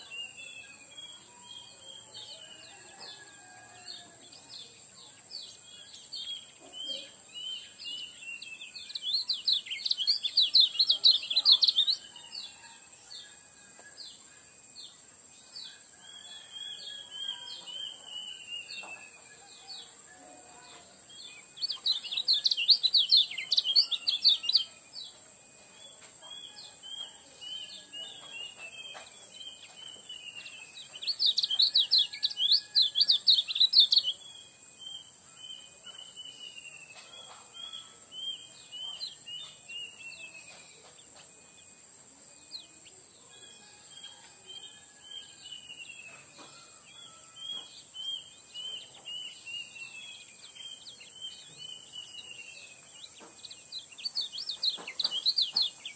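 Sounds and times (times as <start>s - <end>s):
bird warbling and chirping: 0.0s - 12.7s, 15.6s - 55.9s.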